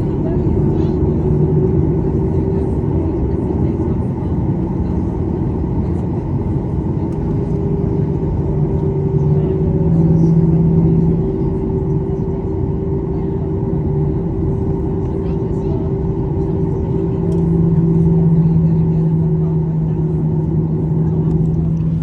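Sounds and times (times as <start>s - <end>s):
aircraft cabin rumble: 0.0s - 22.0s
droning hum: 0.0s - 22.0s.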